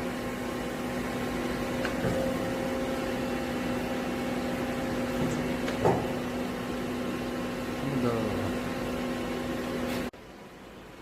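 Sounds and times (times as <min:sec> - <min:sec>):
lathe mechanical hum: 0:00.0 - 0:11.0.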